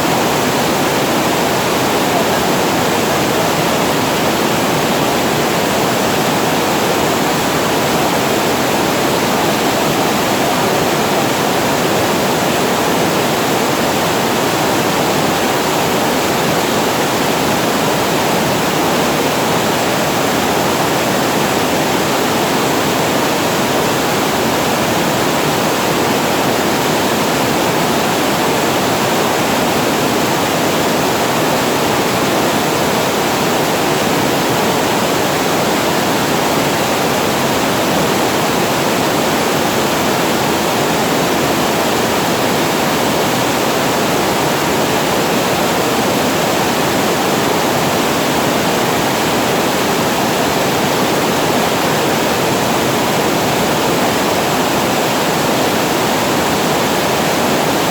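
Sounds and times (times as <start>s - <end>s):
water rushing over weir: 0.0s - 57.9s.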